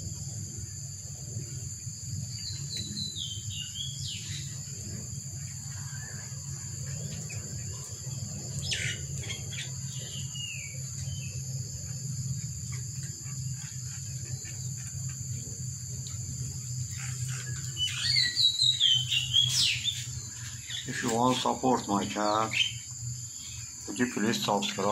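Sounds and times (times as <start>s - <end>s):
high-pitched insect drone: 0.0s - 24.9s
low steady hum: 0.0s - 24.9s
birds chirping: 1.1s - 24.9s.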